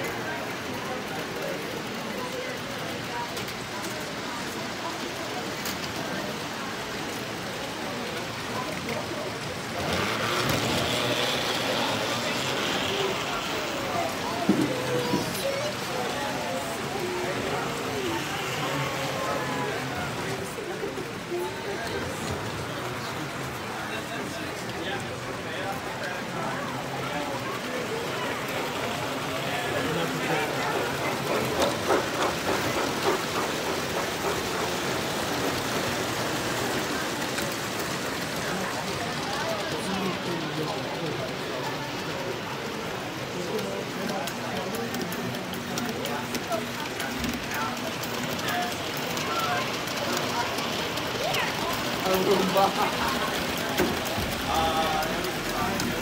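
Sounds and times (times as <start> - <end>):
indistinct voices: 0.0 - 56.0
toy trolley motor whir: 0.0 - 56.0.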